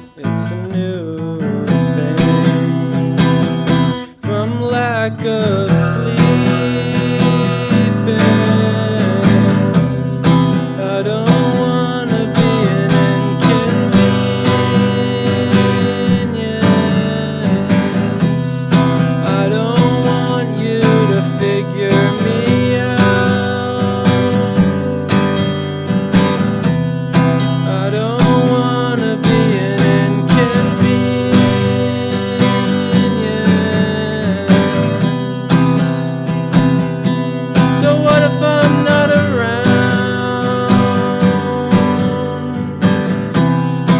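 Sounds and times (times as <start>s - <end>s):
acoustic guitar strumming: 0.0s - 43.9s
man singing: 0.0s - 43.9s.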